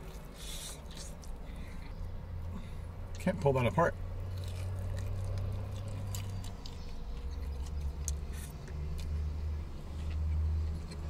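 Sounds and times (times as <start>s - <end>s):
chewing fried chicken: 0.0s - 2.0s, 4.2s - 11.0s
parked car engine humming: 0.0s - 11.0s.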